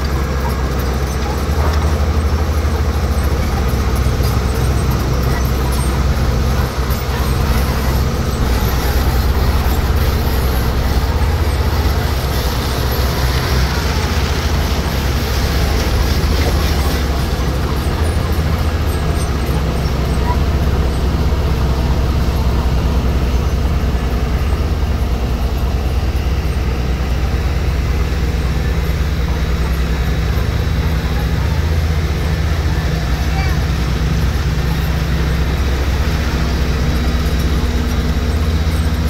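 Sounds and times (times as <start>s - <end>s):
diesel engine droning: 0.0s - 39.0s.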